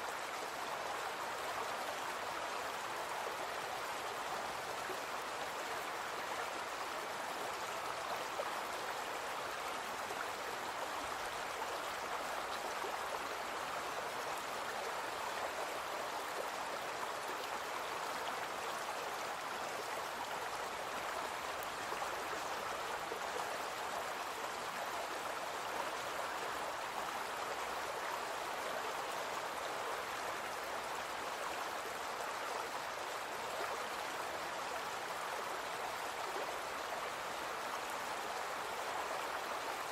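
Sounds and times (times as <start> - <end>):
brook flowing: 0.0 - 39.9.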